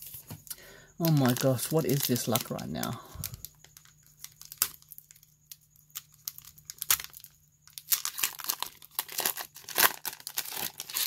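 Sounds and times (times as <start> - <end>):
foil wrapper crinkling and tearing: 1.0 - 11.0.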